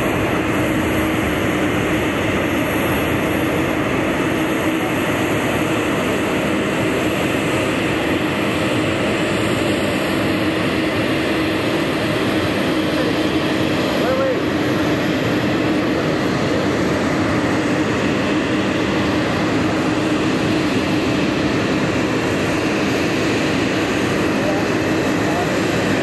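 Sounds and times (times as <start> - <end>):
jet flying overhead: 0.0 - 26.0.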